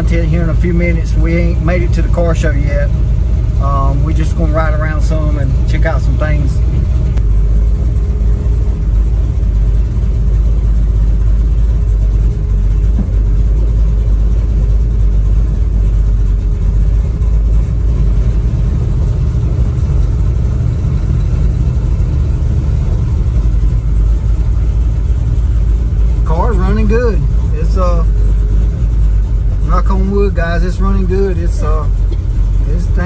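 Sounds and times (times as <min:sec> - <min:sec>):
car engine rumbling: 0:00.0 - 0:33.0.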